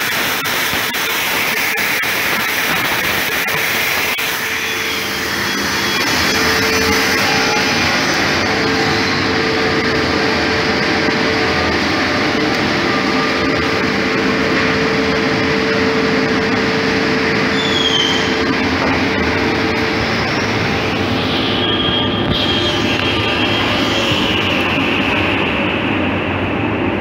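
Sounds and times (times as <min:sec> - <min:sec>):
woodworking machinery running: 0:00.0 - 0:27.0
constant hum: 0:00.1 - 0:27.0.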